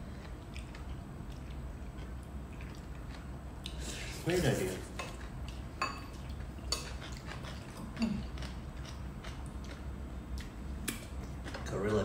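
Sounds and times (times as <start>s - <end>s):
chewing and mouth noises: 0.0s - 4.2s, 4.9s - 11.7s
low steady hum: 0.0s - 12.0s.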